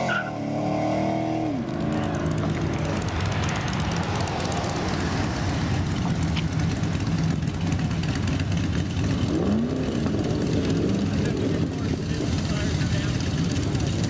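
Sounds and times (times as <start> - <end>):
car engine revving: 0.0 - 14.0
car engine idling: 1.6 - 14.0.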